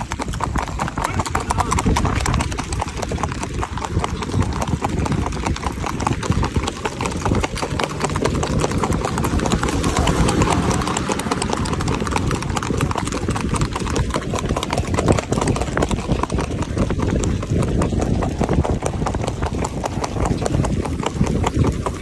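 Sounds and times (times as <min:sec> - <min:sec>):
horse hooves on paved road: 0:00.0 - 0:22.0.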